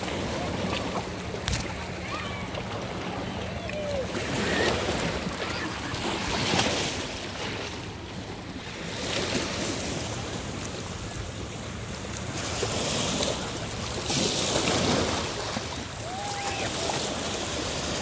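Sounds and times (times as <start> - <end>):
small waves splashing against rocks: 0.0 - 18.0.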